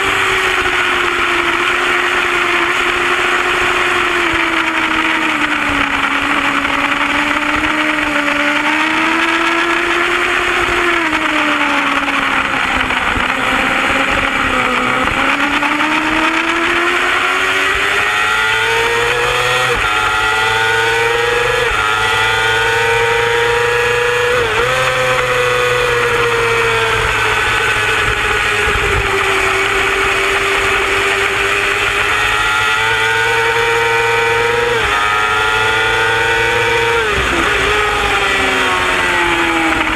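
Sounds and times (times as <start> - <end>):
motorcycle engine at high revs: 0.0 - 39.9
rushing wind noise: 0.0 - 39.9.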